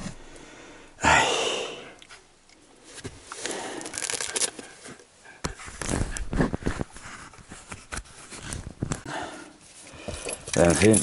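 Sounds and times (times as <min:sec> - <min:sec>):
rustling and handling noises: 0:02.1 - 0:11.0.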